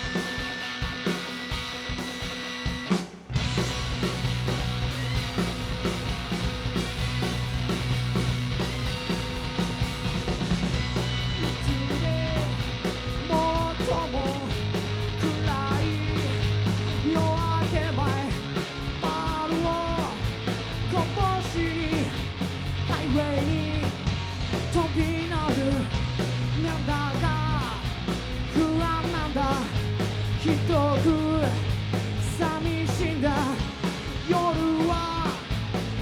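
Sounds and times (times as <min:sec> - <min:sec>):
rock band playing live: 0:00.0 - 0:36.0.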